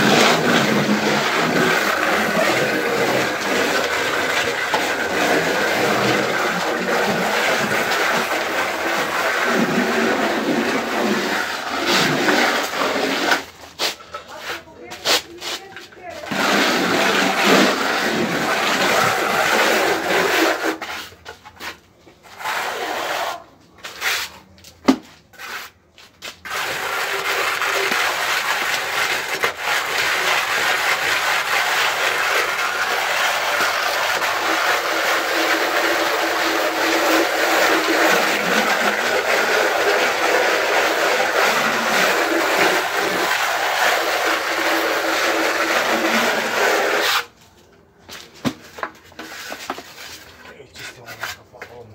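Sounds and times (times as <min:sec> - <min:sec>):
plastering float scraping render: 0:00.0 - 0:51.9.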